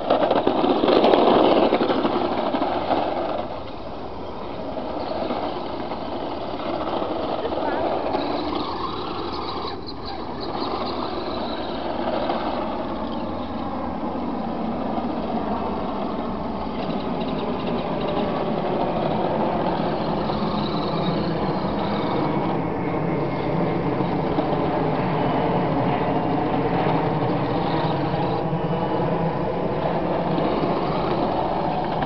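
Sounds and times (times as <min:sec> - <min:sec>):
rc car motor drone: 0:00.0 - 0:32.0.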